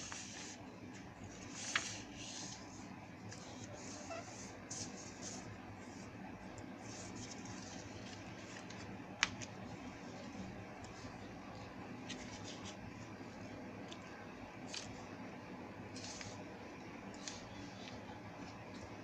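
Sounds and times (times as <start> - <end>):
paper being folded: 0.0 - 6.1, 6.8 - 13.2, 13.8 - 15.1, 16.0 - 16.4, 17.1 - 19.0
steady low hum: 0.0 - 19.0.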